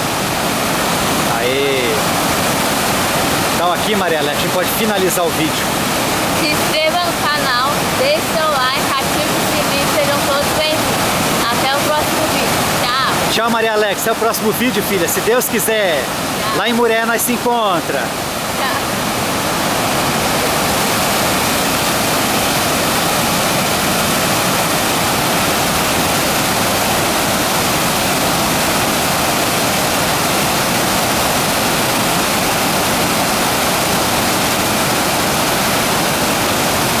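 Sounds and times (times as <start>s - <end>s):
waterfall crashing into pool: 0.0s - 37.0s.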